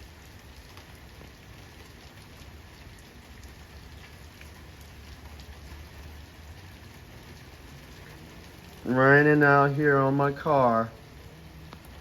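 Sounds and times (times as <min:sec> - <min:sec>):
raindrops ticking: 0:00.0 - 0:12.0
steady rain falling: 0:00.0 - 0:12.0.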